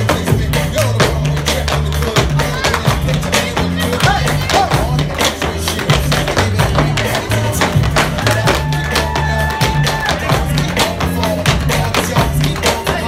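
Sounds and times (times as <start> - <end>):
music with bass line from speaker: 0.0 - 13.0.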